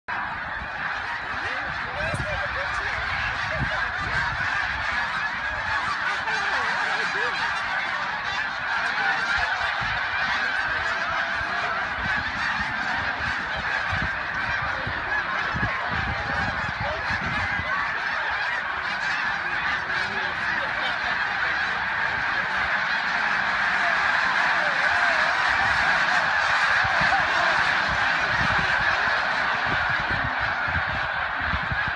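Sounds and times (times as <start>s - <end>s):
geese honking in flight: 0.1s - 31.9s.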